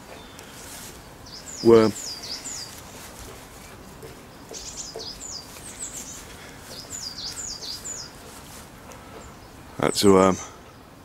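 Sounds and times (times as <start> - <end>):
faint outdoor background noise: 0.0 - 11.0
songbird singing: 0.0 - 11.0.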